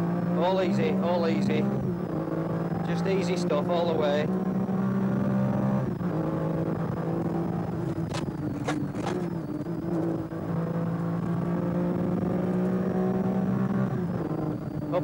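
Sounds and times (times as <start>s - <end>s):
rally car engine from inside cabin: 0.0s - 15.0s.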